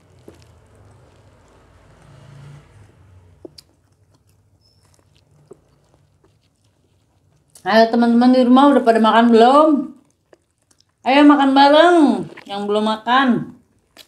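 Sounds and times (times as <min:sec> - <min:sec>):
close chewing of food: 0:00.0 - 0:14.0.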